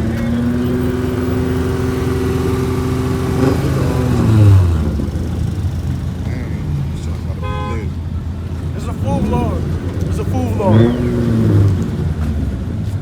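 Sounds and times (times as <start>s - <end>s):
car engine revving down: 0.0s - 13.0s.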